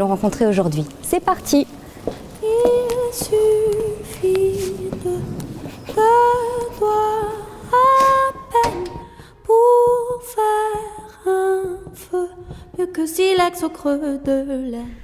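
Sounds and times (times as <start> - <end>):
woman singing long notes: 2.4 - 15.0.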